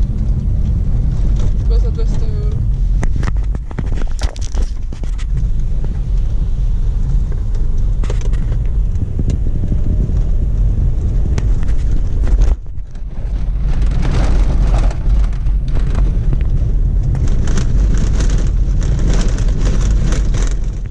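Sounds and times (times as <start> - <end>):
car driving on gravel road: 0.0 - 20.9.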